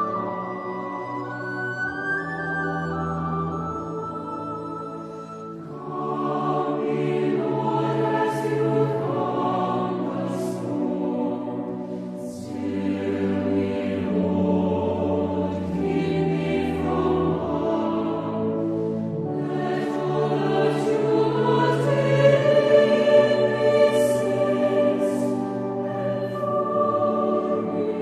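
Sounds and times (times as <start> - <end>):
choir singing held chords: 0.0 - 28.0.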